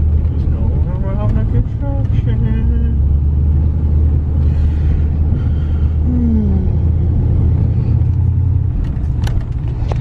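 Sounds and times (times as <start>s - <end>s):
truck engine and tyres rumbling: 0.0s - 10.0s.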